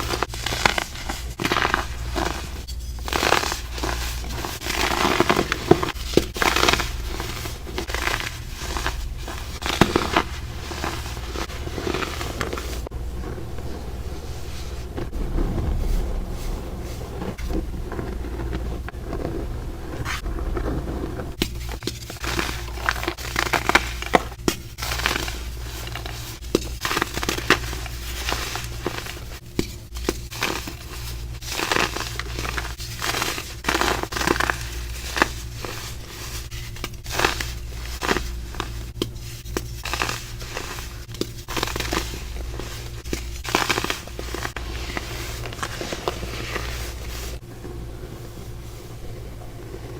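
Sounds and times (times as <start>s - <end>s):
baking soda crunching: 0.0s - 48.2s.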